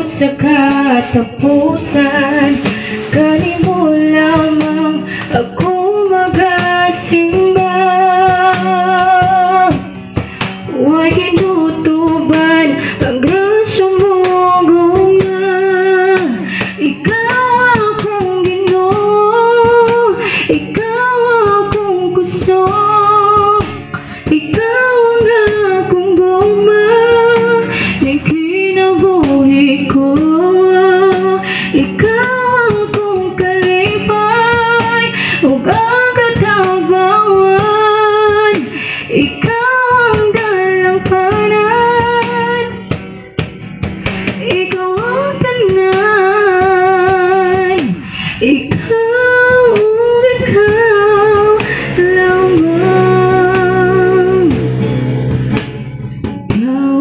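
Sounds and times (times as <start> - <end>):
woman singing worship song: 0.0 - 42.9, 44.1 - 54.8, 56.5 - 57.0
hand-struck cajon beats: 0.0 - 56.8
strummed acoustic guitar: 0.0 - 57.0.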